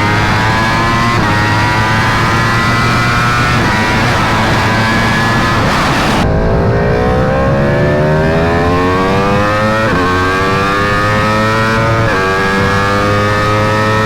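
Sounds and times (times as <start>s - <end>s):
motorcycle accelerating: 0.0s - 14.0s
rough engine noise: 0.0s - 14.0s.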